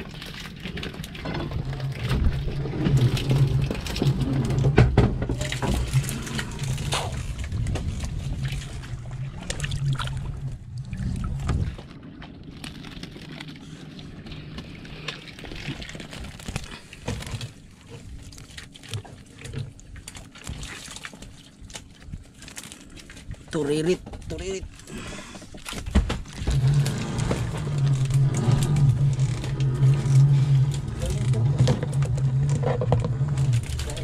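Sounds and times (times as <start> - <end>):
low steady hum: 0.0 - 34.0
water sloshing and dripping: 0.0 - 34.0.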